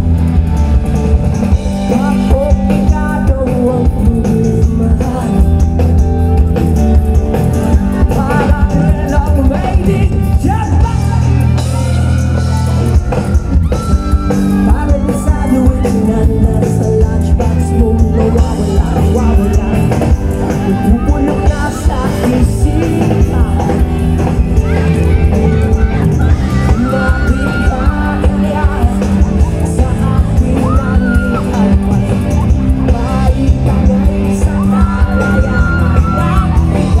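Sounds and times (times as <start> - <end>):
live rock band playing: 0.0 - 37.0
man singing: 1.2 - 12.3, 12.9 - 37.0.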